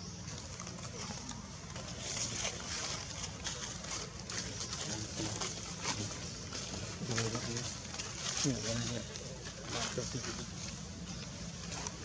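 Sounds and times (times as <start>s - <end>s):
faint distant voices: 0.0s - 12.0s
scattered crackles: 0.2s - 12.0s.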